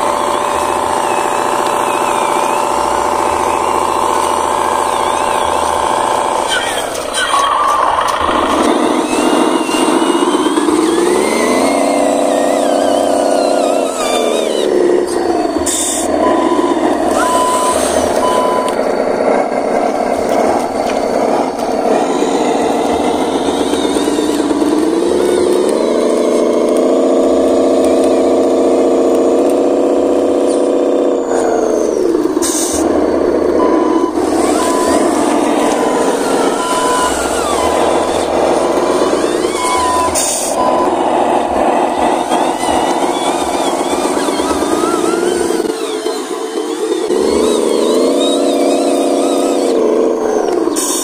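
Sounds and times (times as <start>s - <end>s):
toy truck engine revving: 0.0s - 51.0s.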